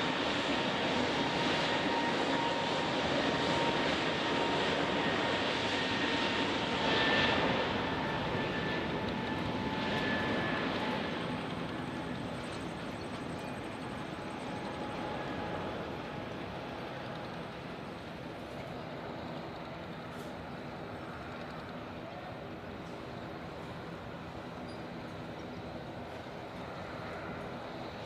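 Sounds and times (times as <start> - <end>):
jet airliner taking off: 0.0 - 28.0.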